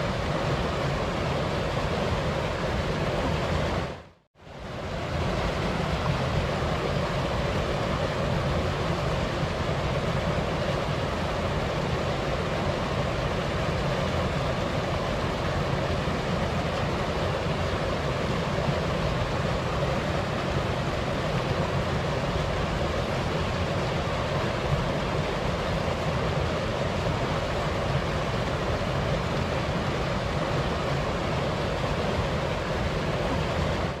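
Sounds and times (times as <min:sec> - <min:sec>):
wind: 0:00.0 - 0:34.0.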